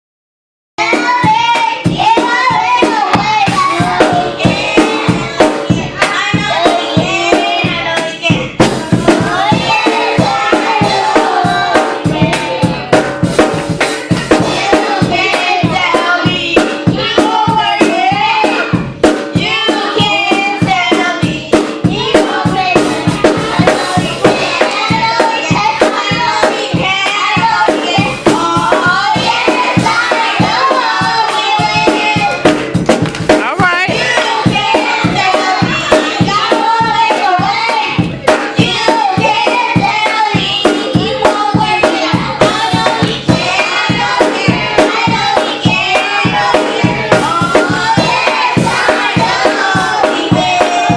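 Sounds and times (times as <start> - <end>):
children's choir singing: 0.8 - 50.9
drums beating: 0.8 - 50.9
rhythmic handclaps: 0.8 - 50.9.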